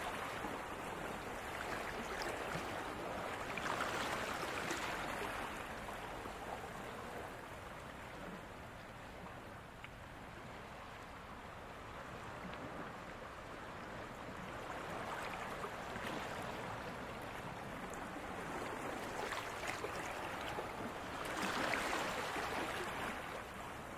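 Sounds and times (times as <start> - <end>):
small waves washing ashore: 0.0 - 23.9.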